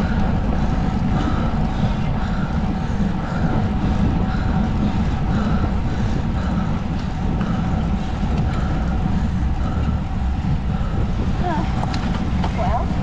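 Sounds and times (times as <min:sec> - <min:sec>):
road noise from bike: 0:00.0 - 0:13.0
wind rumble on microphone: 0:00.0 - 0:13.0.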